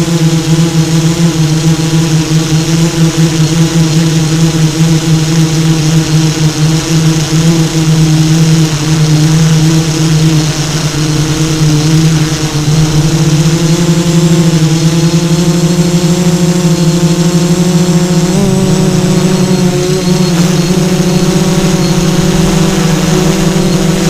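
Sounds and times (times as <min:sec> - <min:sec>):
drone propellers humming: 0:00.0 - 0:24.0.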